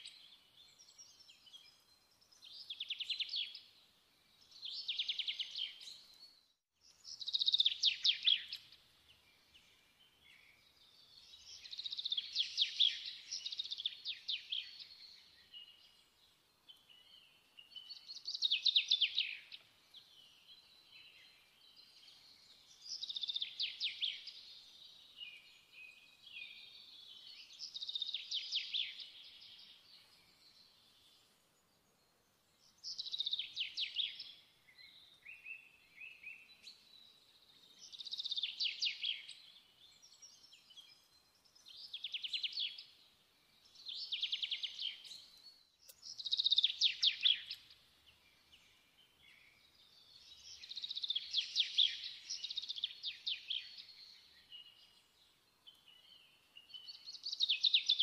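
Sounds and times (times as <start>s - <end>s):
faint bird twittering: 6.9s - 58.0s.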